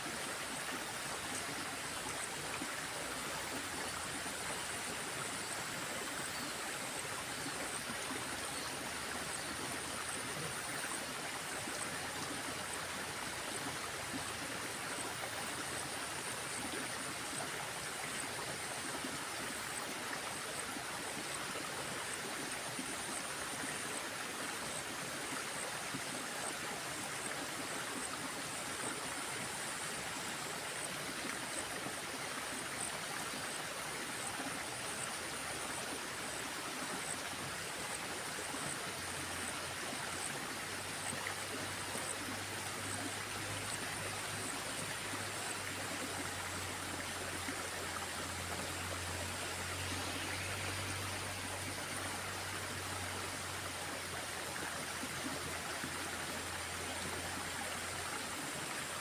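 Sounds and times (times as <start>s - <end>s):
small stream flowing: 0.0s - 59.0s.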